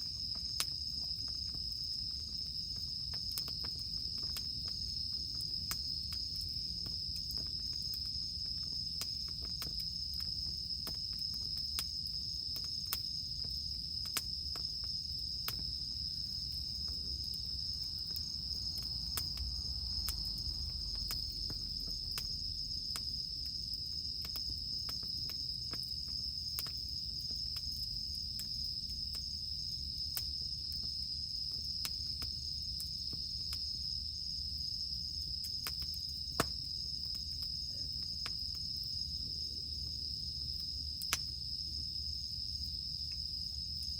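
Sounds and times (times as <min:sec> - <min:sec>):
campfire crackling and popping: 0:00.0 - 0:41.6
cicadas droning: 0:00.0 - 0:43.9.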